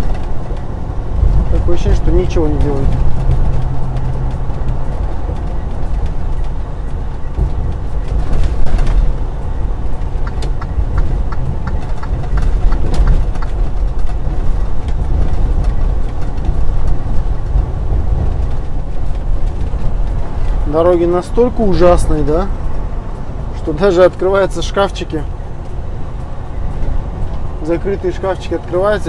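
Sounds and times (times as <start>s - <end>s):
cab knocks and rattles: 0.0s - 25.8s
truck engine and tyres rumbling: 0.0s - 29.0s
quick regular ticks: 1.3s - 29.0s.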